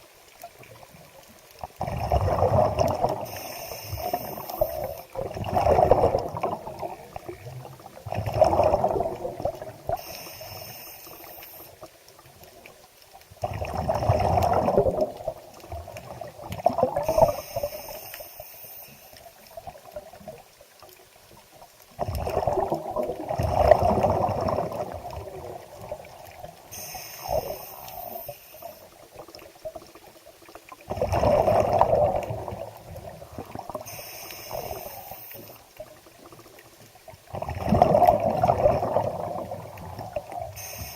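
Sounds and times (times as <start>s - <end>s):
water trickling: 0.0s - 17.9s, 19.0s - 40.9s.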